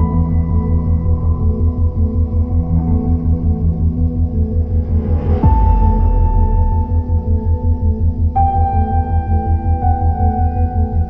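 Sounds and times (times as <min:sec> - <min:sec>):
ambient music with held tones: 0:00.0 - 0:11.0
pulsing bass: 0:00.0 - 0:11.0.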